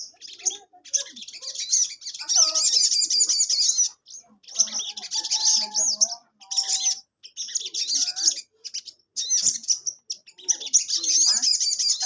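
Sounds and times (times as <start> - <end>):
sunbird chirping: 0.0 - 12.0.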